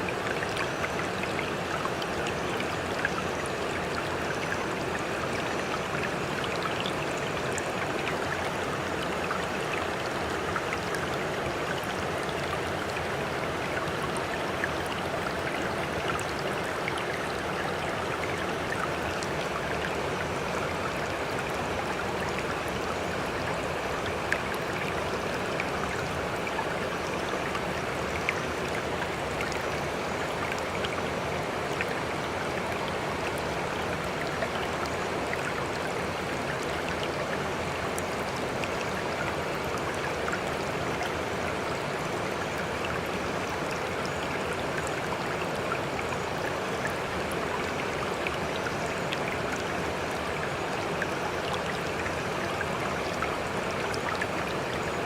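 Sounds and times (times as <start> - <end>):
water rushing and splashing: 0.0 - 55.0.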